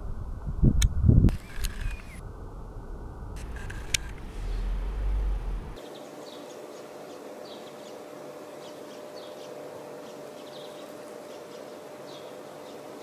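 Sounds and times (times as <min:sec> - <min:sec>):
faint hum: 0:00.0 - 0:13.0
bird chirping: 0:01.3 - 0:02.2, 0:03.4 - 0:13.0
background hiss: 0:01.3 - 0:13.0.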